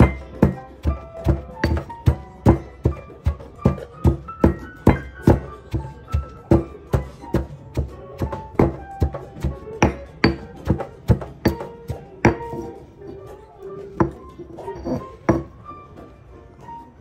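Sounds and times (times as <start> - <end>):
pestle pounding in stone mortar: 0.0 - 12.8, 14.0 - 15.5
background music: 0.0 - 17.0.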